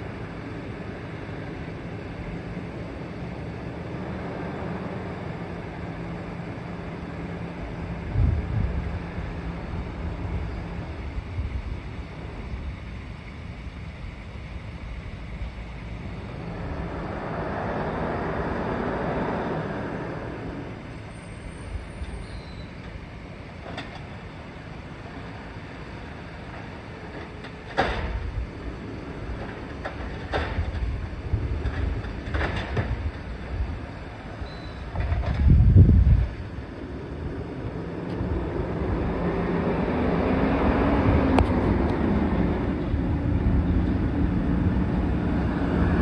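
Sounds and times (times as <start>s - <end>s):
truck diesel engine rumbling: 0.0s - 46.0s.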